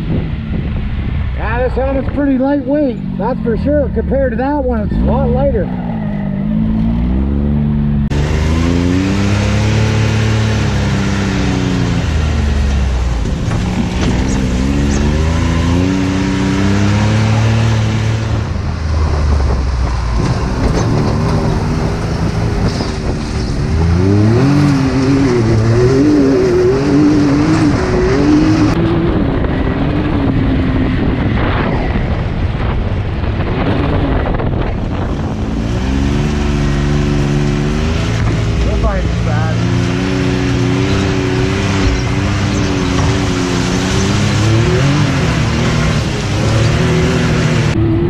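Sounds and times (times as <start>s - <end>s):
engine revs climbing and dropping: 1.4s - 48.0s.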